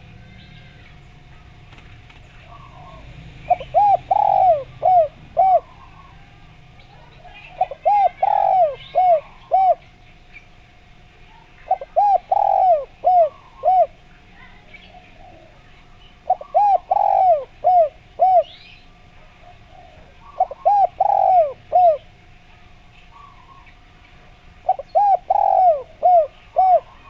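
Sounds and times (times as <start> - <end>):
dove cooing: 0.0 - 10.0, 11.6 - 27.0
small birds chirping: 0.0 - 27.0.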